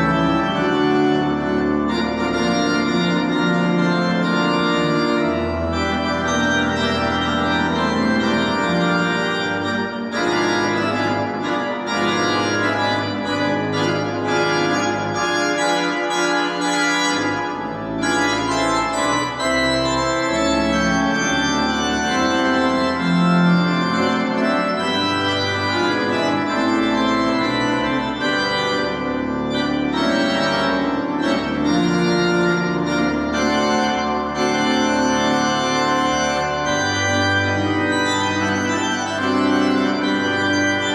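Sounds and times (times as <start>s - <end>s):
church organ chords: 0.0s - 40.9s.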